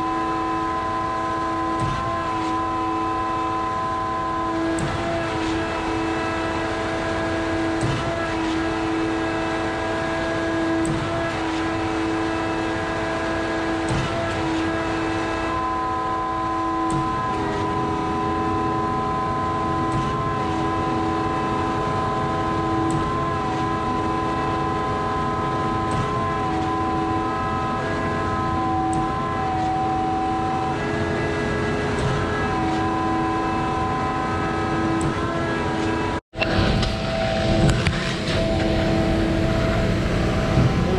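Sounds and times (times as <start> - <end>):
pump engine droning: 0.0 - 40.9
steady whine of held tones: 0.0 - 40.9.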